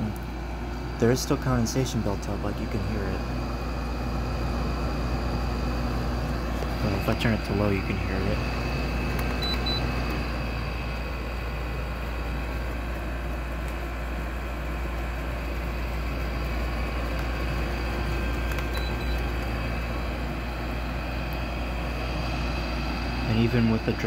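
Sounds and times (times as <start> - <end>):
air conditioner running: 0.0 - 24.0.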